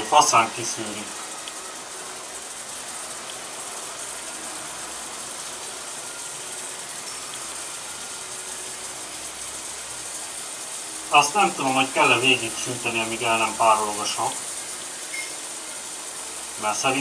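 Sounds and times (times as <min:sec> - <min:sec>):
sizzling hiss of vaporizing acid: 0:00.0 - 0:17.0.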